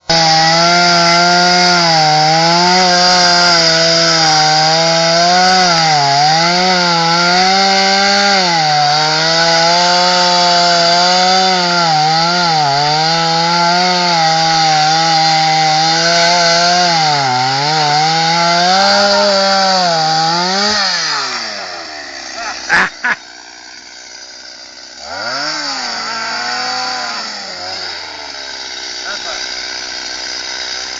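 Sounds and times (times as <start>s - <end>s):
chainsaw engine revving: 0.0s - 30.9s.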